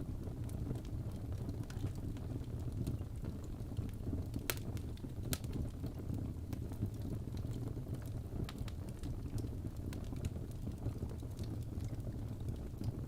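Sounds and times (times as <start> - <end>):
wood fire burning: 0.0 - 13.0.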